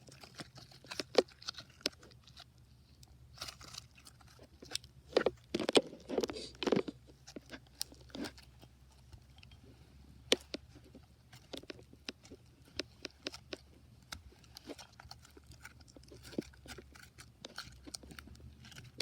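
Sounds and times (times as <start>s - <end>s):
slime squelching: 0.0s - 19.0s.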